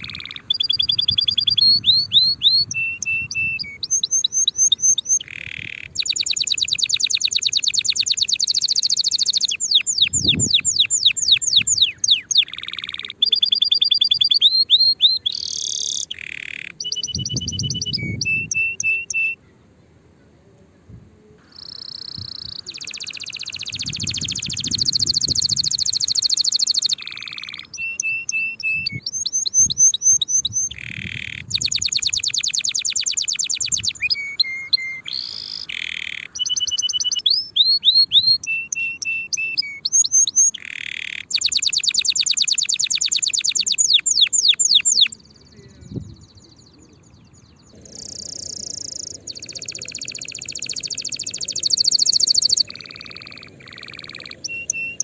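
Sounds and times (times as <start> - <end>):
canary singing trills: 0.0 - 19.6, 21.4 - 55.0.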